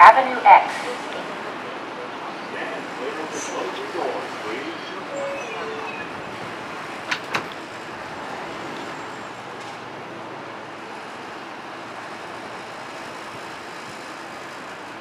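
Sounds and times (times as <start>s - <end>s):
subway train running: 0.0s - 15.0s.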